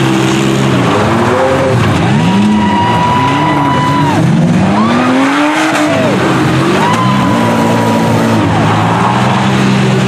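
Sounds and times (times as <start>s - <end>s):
minivan engines revving: 0.0s - 10.0s.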